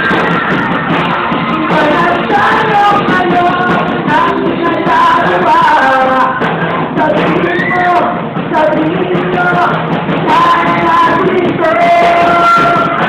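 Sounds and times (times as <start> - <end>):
rock band playing: 0.0 - 13.0
person singing long notes: 1.5 - 13.0.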